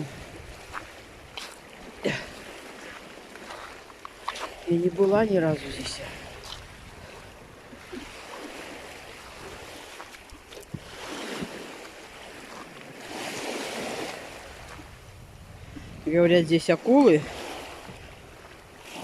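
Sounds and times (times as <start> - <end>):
wind on microphone: 0.0 - 2.5, 4.2 - 19.0
sea surf washing ashore: 0.0 - 19.0.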